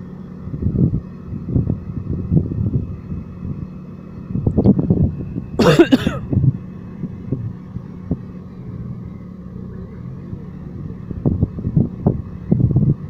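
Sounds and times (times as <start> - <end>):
sports car engine idling: 0.0 - 13.0.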